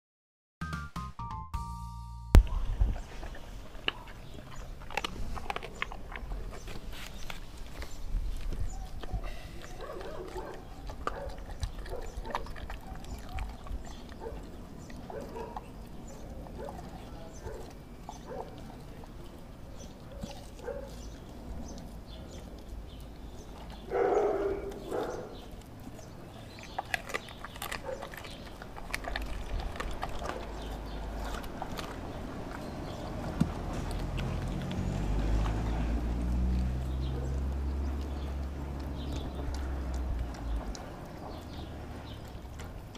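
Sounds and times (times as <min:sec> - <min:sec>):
dog chomping and chewing: 0:02.4 - 0:42.9.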